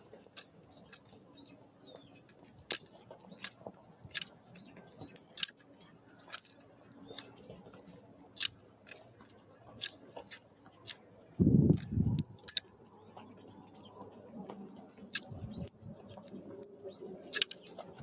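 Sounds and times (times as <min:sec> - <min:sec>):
birds pecking seeds: 0:00.0 - 0:18.0.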